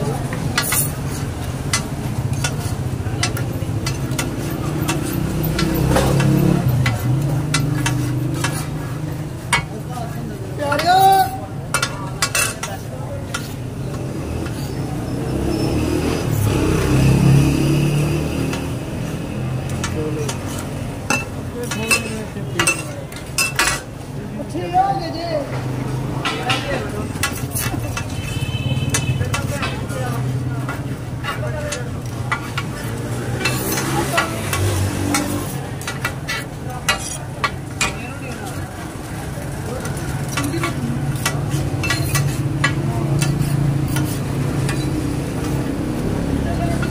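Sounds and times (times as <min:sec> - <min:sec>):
spatulas scraping on metal: 0:00.2 - 0:17.3, 0:26.2 - 0:46.9.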